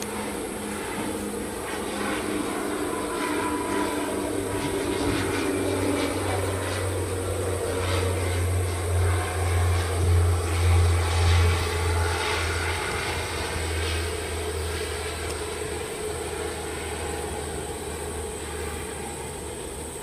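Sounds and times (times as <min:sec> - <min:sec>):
propeller aircraft landing drone: 0:00.0 - 0:20.0.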